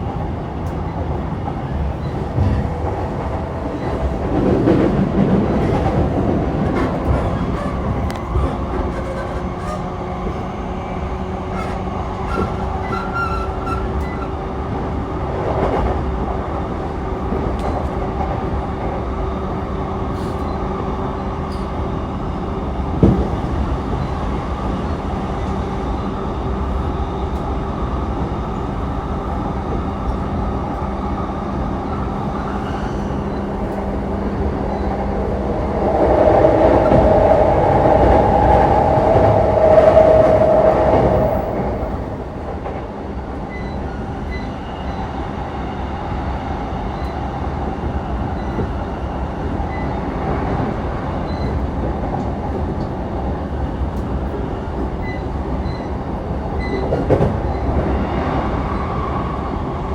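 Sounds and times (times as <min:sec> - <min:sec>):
electric train rumbling at speed: 0:00.0 - 0:59.9.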